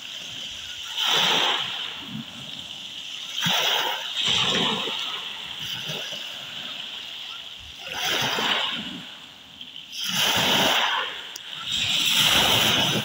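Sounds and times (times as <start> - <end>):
waves washing over pebble beach: 0.0 - 13.0.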